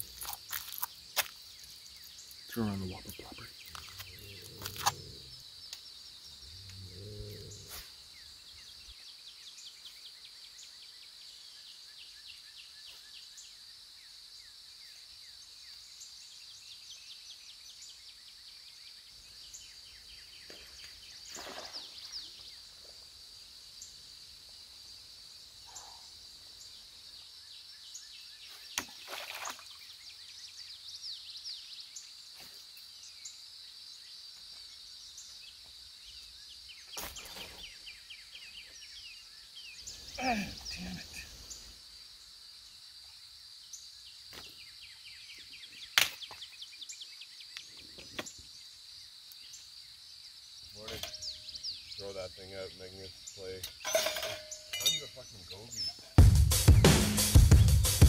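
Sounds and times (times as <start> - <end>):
high-pitched insect trill: 0.0 - 9.7, 18.1 - 56.2.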